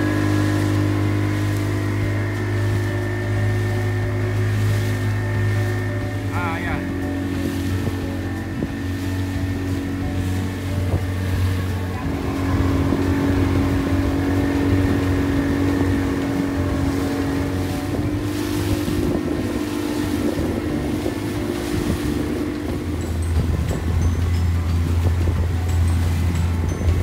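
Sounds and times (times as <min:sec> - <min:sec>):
boat motor humming: 0:00.0 - 0:27.0
wind buffeting microphone: 0:00.0 - 0:27.0.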